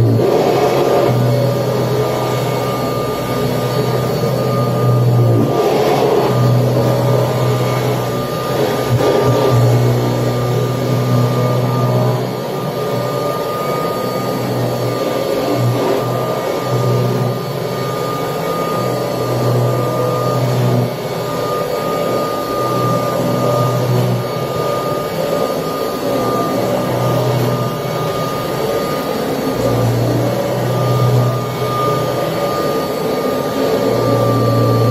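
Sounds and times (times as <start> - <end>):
vacuum cleaner motor whine: 0.0 - 34.9.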